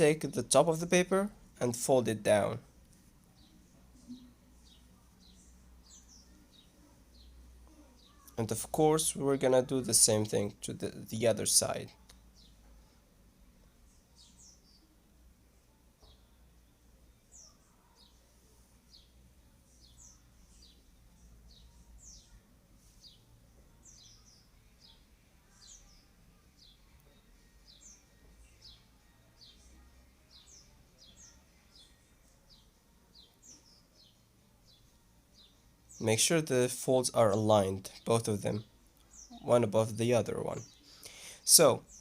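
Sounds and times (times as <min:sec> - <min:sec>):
faint bird chirping: 0:00.0 - 0:42.0.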